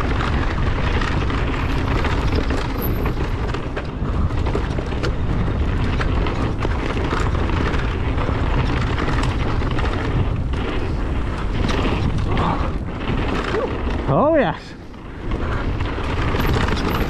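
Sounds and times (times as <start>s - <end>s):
bike knocks and rattles: 0.0s - 17.0s
tyre rumble: 0.0s - 17.0s
wind on microphone: 0.0s - 17.0s.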